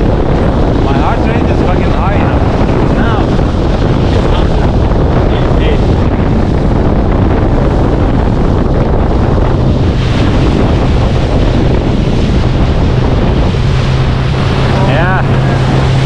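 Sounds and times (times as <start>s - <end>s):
boat engine hum: 0.0s - 16.0s
water rushing: 0.0s - 16.0s
wind buffeting microphone: 0.0s - 16.0s.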